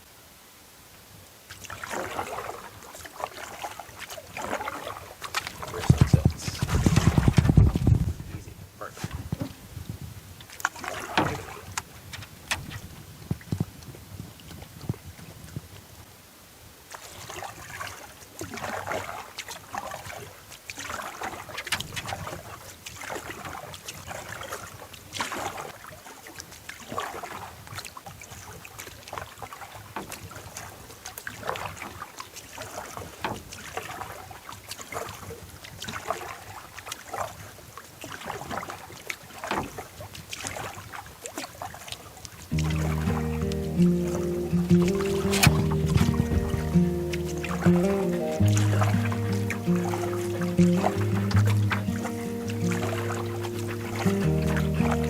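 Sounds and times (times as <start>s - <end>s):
canoe paddle strokes in water: 0.9s - 55.0s.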